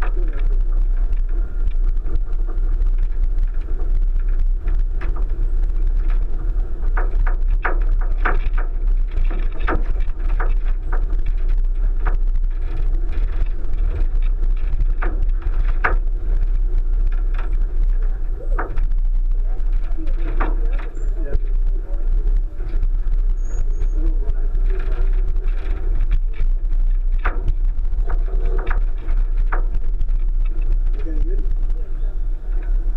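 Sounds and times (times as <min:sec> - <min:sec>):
car knocking over bumps: 0:00.0 - 0:31.7
car driving low rumble: 0:00.0 - 0:32.9.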